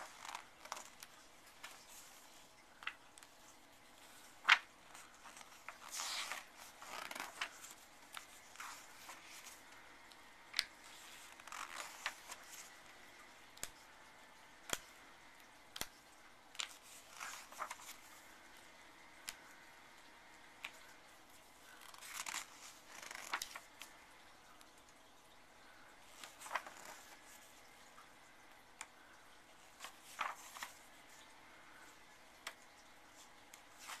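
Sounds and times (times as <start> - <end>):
book pages turning: 0.0 - 24.8, 26.0 - 34.0.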